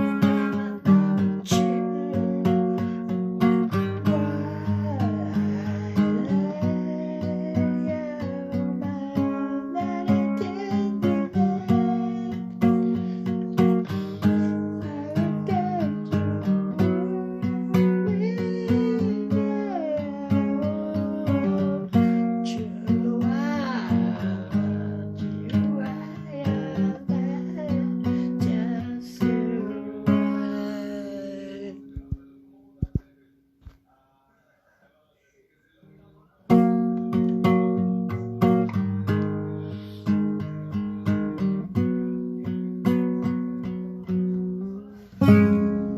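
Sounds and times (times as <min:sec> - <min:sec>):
acoustic guitar music: 0:00.0 - 0:33.8, 0:35.8 - 0:45.9.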